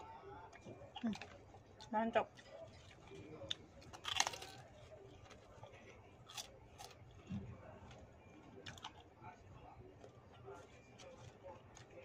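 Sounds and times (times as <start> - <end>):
chewing crunchy food: 0.0 - 12.0.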